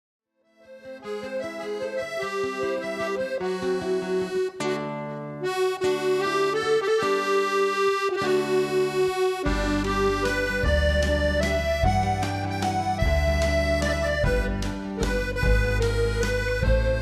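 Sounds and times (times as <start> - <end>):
accordion music: 0.5 - 17.0.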